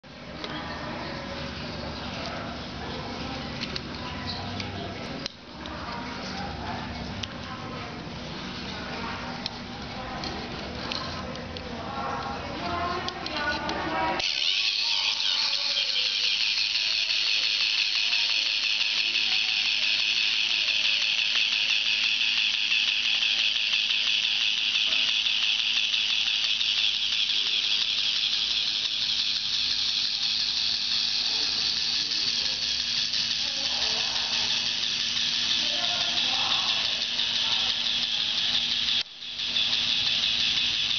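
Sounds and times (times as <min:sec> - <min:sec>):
toy motor whirring rattle: 0:00.3 - 0:40.9.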